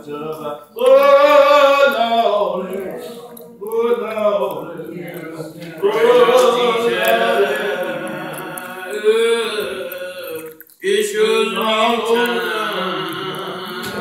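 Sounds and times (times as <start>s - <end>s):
man chanting a prayer: 0.0s - 14.0s.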